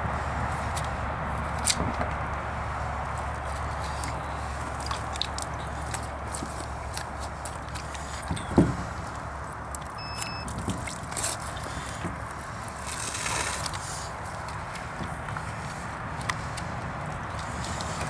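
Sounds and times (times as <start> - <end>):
wet handling noises: 3.2 - 18.0.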